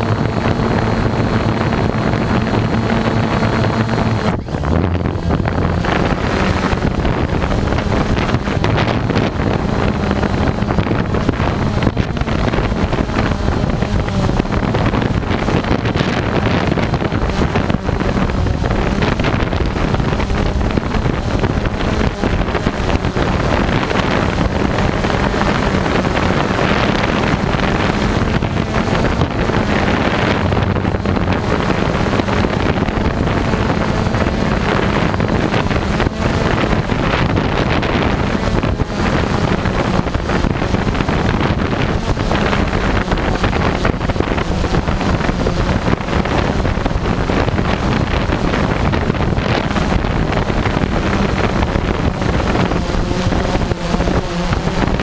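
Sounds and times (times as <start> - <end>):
drone motors humming: 0.0 - 55.0
wind over microphone: 0.0 - 55.0.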